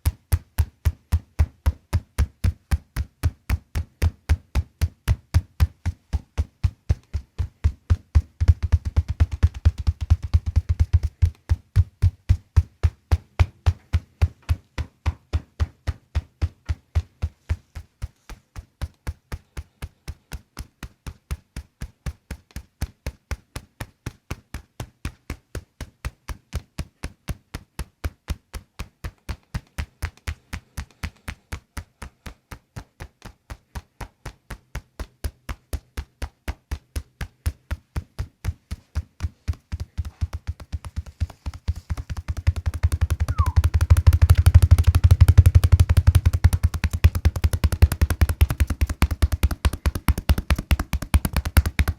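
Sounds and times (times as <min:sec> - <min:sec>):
massage device tapping: 0:00.0 - 0:51.9.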